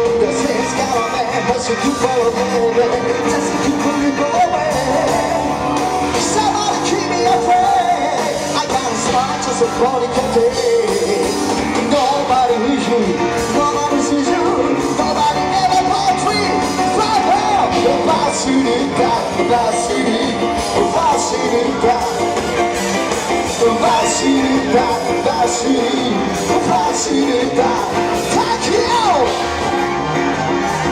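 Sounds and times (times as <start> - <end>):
lead vocal singing: 0.0 - 30.9
live rock band playing: 0.0 - 30.9.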